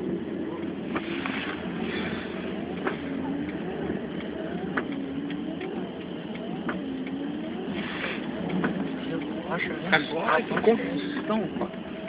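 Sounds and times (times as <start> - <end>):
road and wind noise: 0.0 - 12.0
windscreen wipers click and whine: 0.0 - 12.0.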